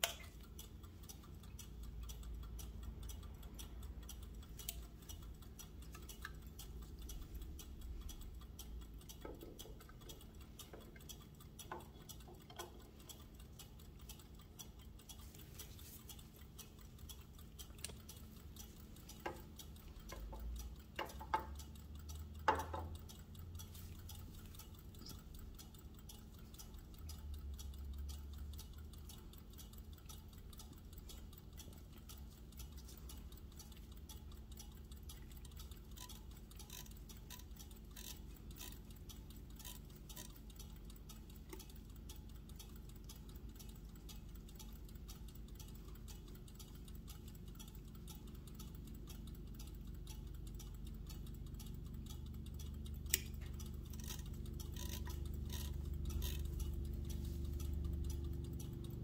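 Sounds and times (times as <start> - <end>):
clock clicks and knocks: 0.0 - 59.0
clocks ticking: 0.0 - 59.0.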